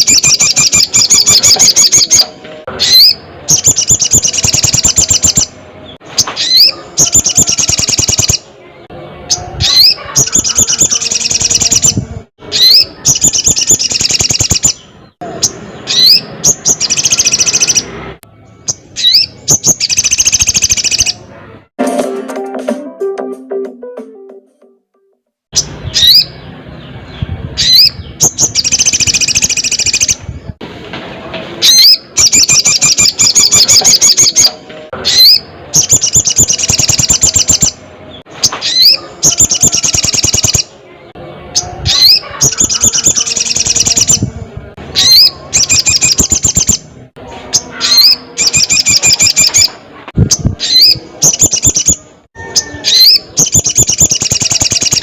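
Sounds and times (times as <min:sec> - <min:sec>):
bird singing trills: 0:00.0 - 0:08.5, 0:09.3 - 0:21.2, 0:25.6 - 0:30.2, 0:31.6 - 0:40.7, 0:41.6 - 0:44.3, 0:45.0 - 0:46.8, 0:47.5 - 0:49.7, 0:50.3 - 0:55.0.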